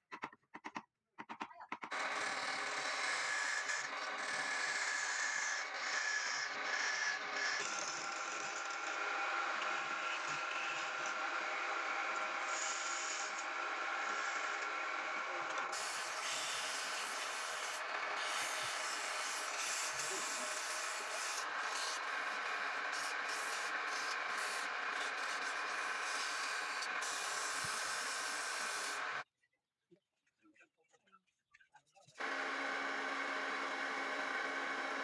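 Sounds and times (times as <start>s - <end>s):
wood lathe motor running: 1.9s - 29.2s, 32.2s - 35.0s
wood scraping on lathe: 1.9s - 29.2s, 32.2s - 35.0s.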